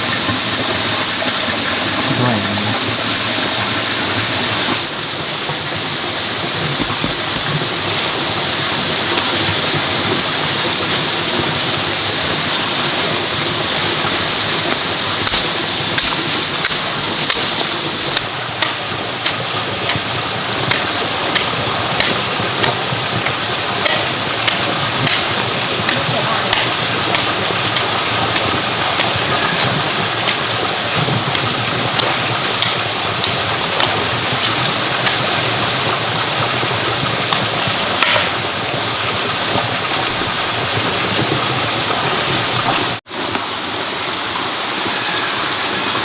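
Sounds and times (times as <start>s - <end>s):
running water: 0.0s - 46.0s.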